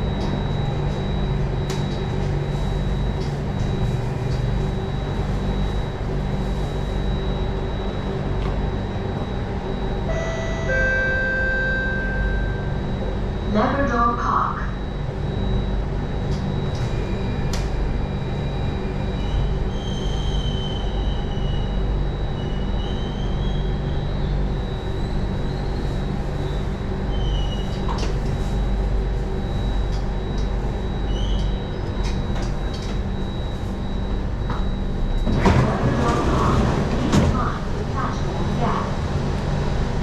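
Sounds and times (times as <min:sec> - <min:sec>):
train rumbling on rails: 0:00.0 - 0:40.0.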